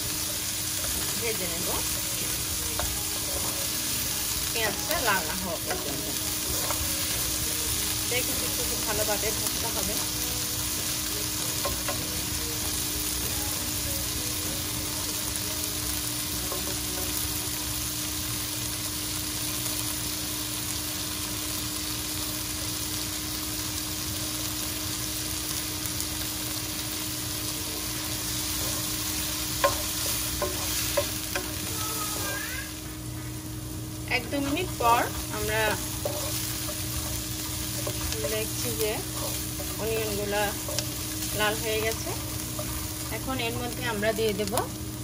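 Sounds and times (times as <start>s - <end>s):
onions sizzling in hot oil: 0.0s - 45.0s.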